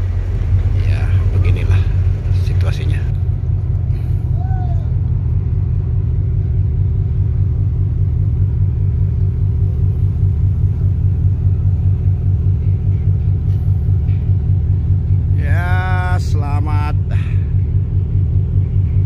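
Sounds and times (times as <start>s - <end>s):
ship engine droning: 0.0s - 19.0s.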